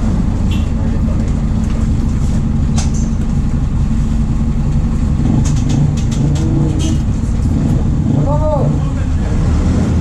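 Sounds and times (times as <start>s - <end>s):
diesel bus engine running: 0.0s - 10.0s.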